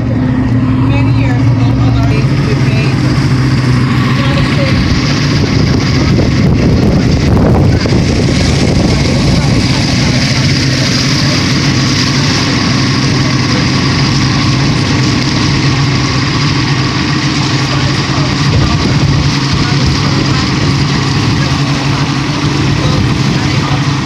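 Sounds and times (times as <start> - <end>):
outboard motor drone: 0.0 - 24.0
rush of wind and water: 0.0 - 24.0.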